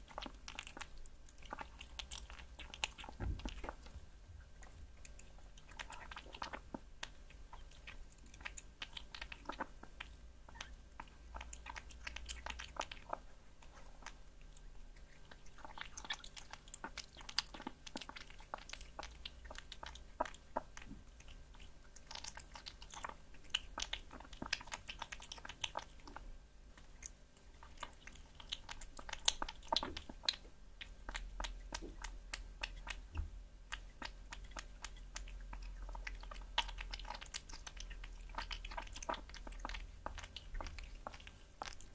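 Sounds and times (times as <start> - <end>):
cat chewing and licking meat: 0.0 - 41.9.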